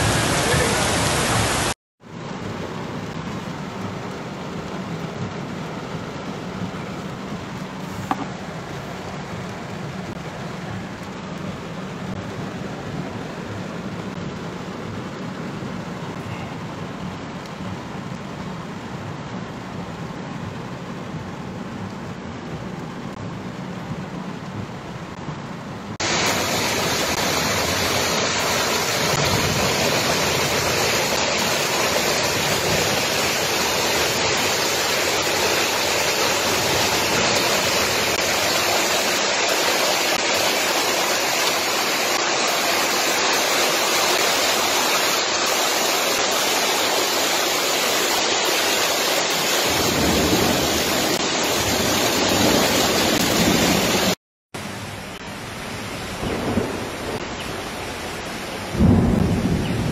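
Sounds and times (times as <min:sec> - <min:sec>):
floodwater rushing down street: 0:00.0 - 0:59.9.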